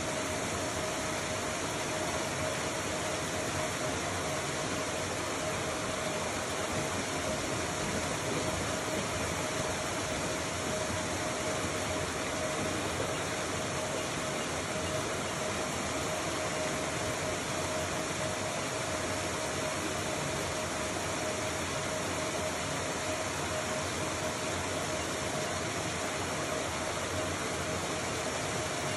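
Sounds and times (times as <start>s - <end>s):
motor humming: 0.0s - 28.9s.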